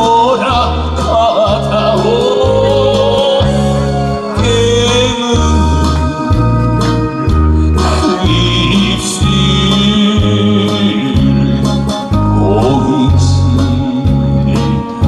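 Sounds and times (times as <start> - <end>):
electronic keyboard accompaniment: 0.0 - 15.0
steady bass pulse: 0.0 - 15.0
wavering melody line: 0.6 - 15.0.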